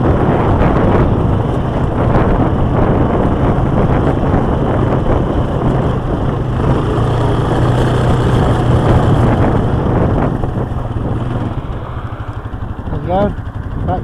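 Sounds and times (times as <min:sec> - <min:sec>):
quad bike engine running: 0:00.0 - 0:14.0
tyres rumbling on gravel: 0:00.0 - 0:14.0.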